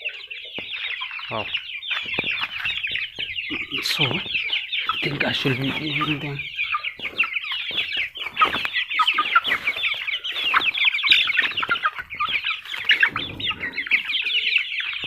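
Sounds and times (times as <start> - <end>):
young chickens peeping: 0.0 - 15.0.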